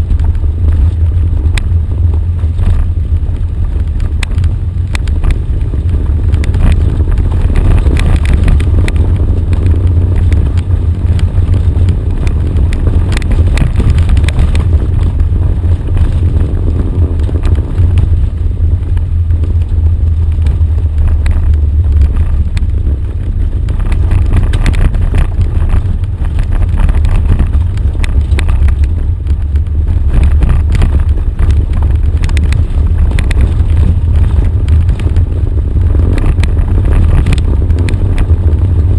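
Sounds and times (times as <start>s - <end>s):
off-road vehicle engine rumble: 0.0s - 38.9s
small clicks and rattles: 0.1s - 38.9s.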